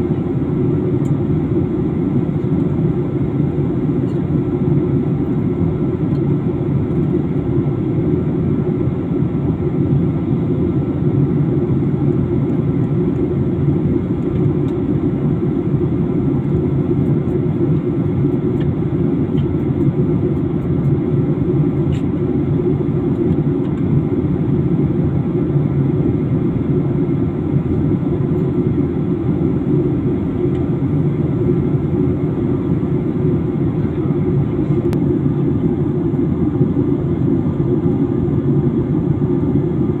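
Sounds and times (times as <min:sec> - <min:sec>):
airliner cabin engine drone: 0:00.0 - 0:40.0.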